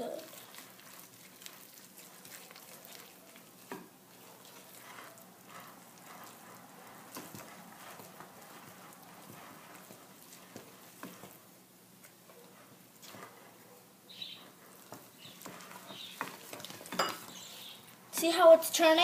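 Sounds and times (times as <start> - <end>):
spoon scraping dough in bowl: 0.2 - 18.3.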